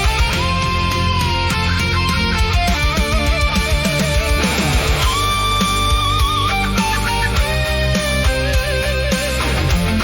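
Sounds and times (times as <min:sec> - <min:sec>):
bass guitar: 0:00.0 - 0:10.0
drums: 0:00.0 - 0:10.0
lead electric guitar melody: 0:00.0 - 0:10.0.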